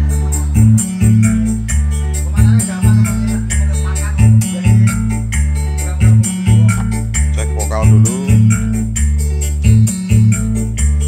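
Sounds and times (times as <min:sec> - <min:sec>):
bass-heavy music over speakers: 0:00.0 - 0:11.0.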